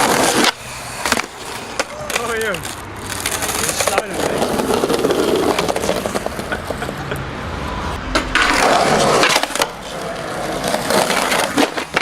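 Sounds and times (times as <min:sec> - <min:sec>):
skateboard clacks: 0:00.0 - 0:07.2, 0:08.1 - 0:12.0
skateboard wheels rolling on pavement: 0:00.0 - 0:12.0.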